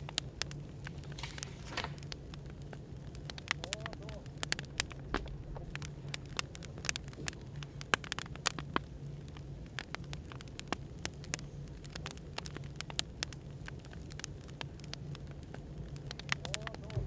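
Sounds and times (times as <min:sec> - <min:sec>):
low background noise hum: 0:00.0 - 0:17.0
wood fire crackling and popping: 0:00.0 - 0:17.0.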